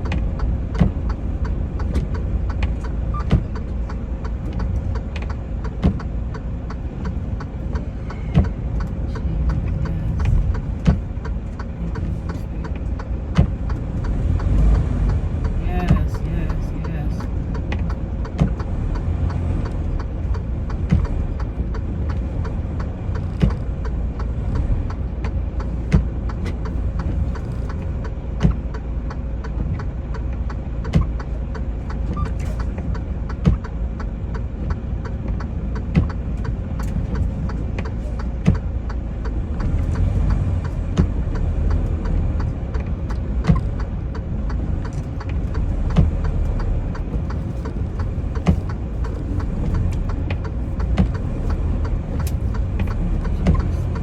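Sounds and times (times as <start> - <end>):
diesel truck engine droning: 0.0 - 54.0
sharp clicks: 0.0 - 54.0.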